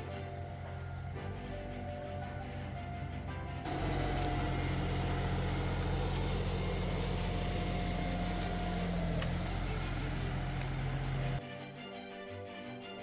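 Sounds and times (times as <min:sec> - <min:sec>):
heavy machine engine droning: 0:00.0 - 0:11.4.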